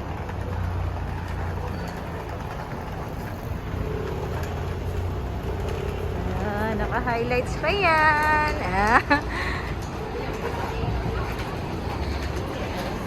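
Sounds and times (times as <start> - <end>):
low rumble of street ambience: 0.0 - 13.0.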